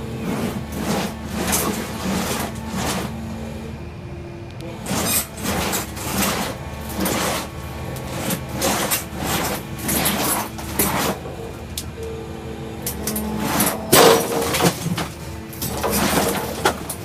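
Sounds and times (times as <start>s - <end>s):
concrete cutting surges: 0.0s - 17.0s
engine hum: 0.0s - 17.0s.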